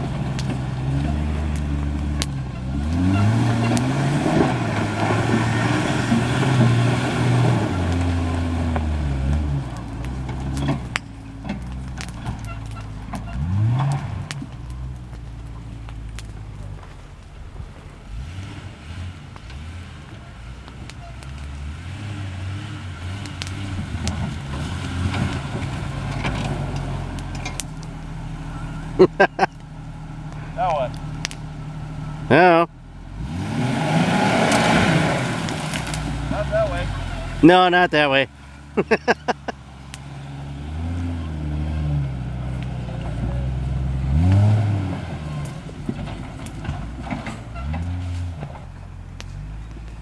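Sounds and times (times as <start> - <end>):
pickup truck engine running: 0.0 - 50.0.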